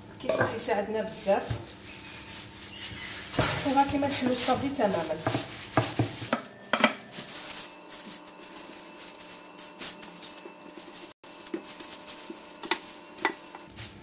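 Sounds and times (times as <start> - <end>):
plastic bag crinkling: 1.2 - 14.0.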